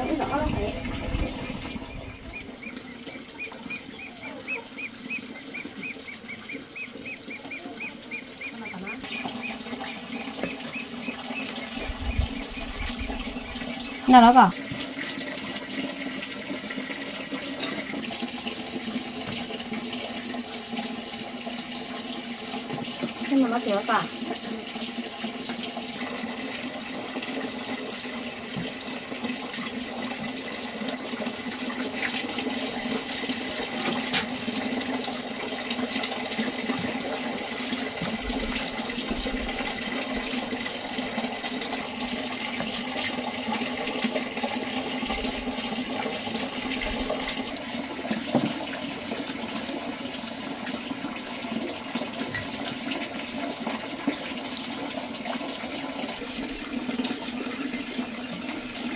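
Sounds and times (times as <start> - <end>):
running water: 0.0 - 58.9.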